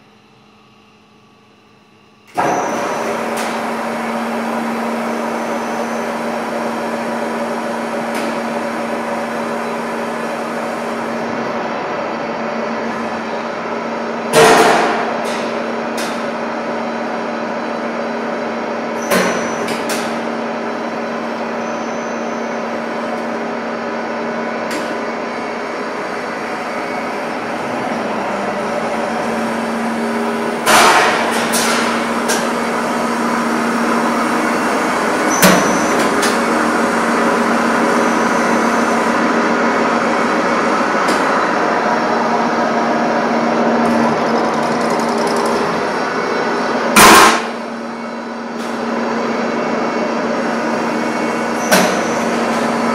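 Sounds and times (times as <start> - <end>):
machine running with hum: 0.0 - 52.9.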